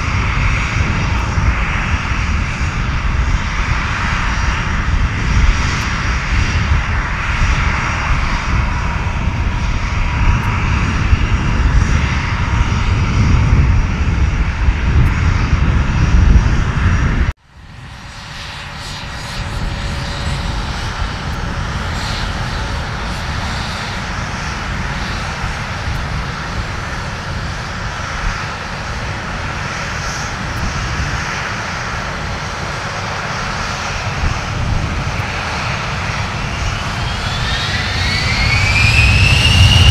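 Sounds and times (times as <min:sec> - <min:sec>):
jet engines whining: 0:00.0 - 0:39.9
radial aircraft engine rumble: 0:00.0 - 0:39.9.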